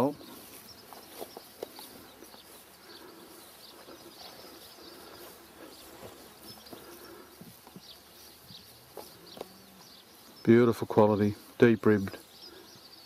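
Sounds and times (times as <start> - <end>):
birds chirping: 0.0 - 13.0
outdoor background noise: 0.0 - 13.0.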